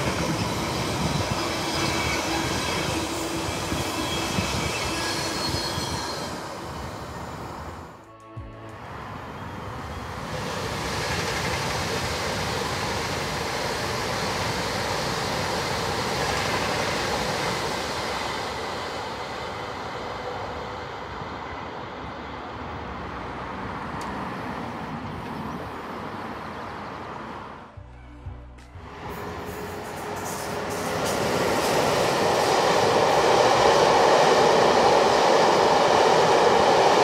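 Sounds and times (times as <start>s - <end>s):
train wheels rushing on rail: 0.0s - 7.9s, 8.8s - 27.0s, 28.8s - 37.0s.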